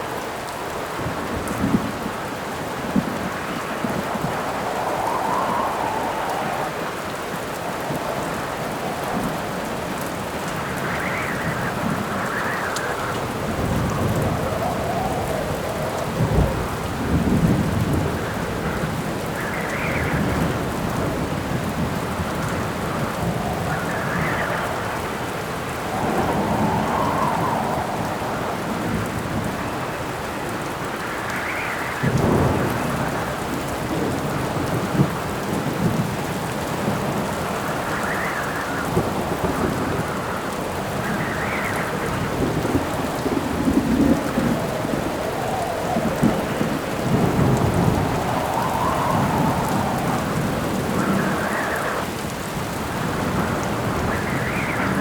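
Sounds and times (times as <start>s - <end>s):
howling wind gusts: 0.0s - 55.0s
steady rain: 0.0s - 55.0s
rolling thunder: 1.0s - 55.0s.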